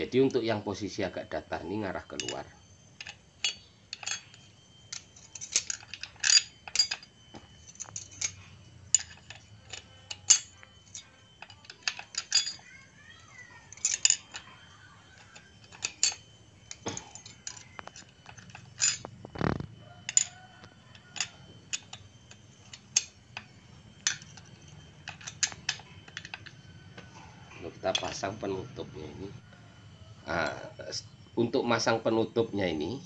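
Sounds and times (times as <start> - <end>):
faint low hum: 0.0 - 33.0
metal clutch plates clinking: 2.0 - 12.8, 13.4 - 31.6.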